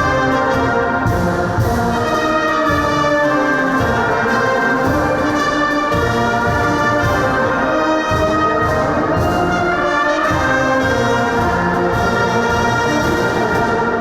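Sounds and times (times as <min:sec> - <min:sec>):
brass-led orchestral chords: 0:00.0 - 0:14.0.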